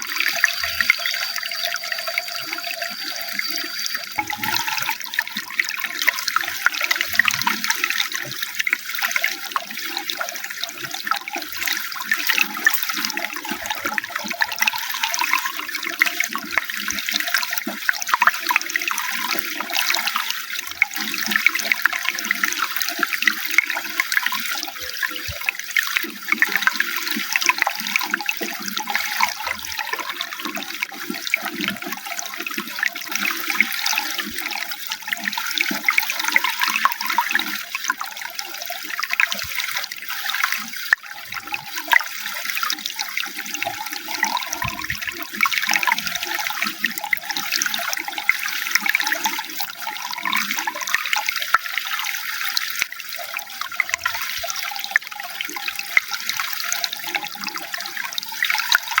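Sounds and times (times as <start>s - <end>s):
water flowing and splashing: 0.0s - 59.0s.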